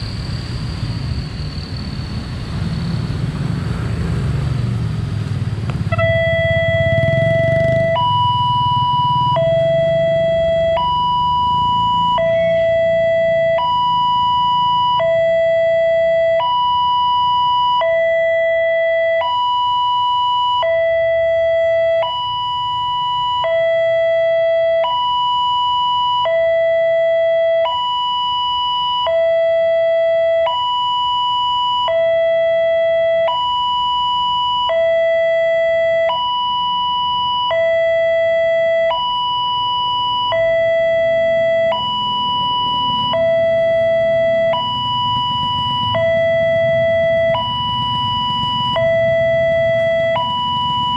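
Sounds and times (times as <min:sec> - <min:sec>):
two-tone crossing alarm: 0:00.0 - 0:50.9.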